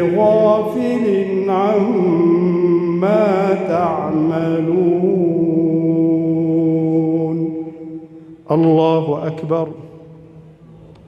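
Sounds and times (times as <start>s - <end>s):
man chanting melodically: 0.0s - 10.3s.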